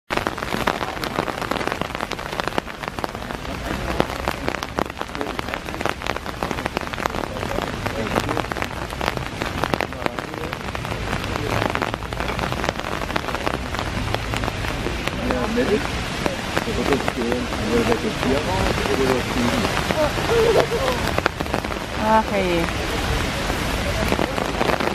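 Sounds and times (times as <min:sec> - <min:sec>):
heavy rain falling: 0:00.1 - 0:24.9
sharp raindrop hits: 0:00.1 - 0:24.9.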